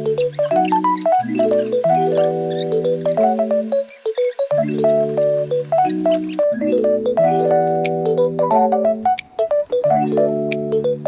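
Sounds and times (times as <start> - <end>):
keyboard chords and melody: 0.0 - 11.0.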